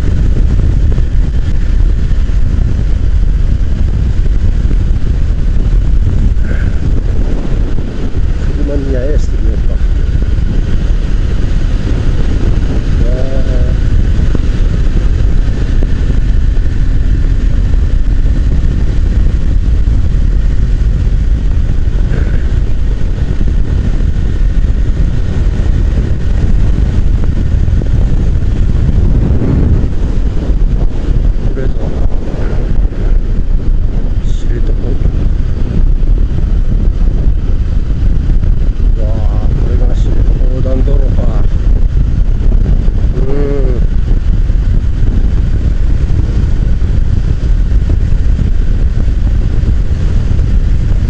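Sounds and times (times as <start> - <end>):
motorcycle engine running: 0.0 - 51.0
wind rumble on microphone: 0.0 - 51.0.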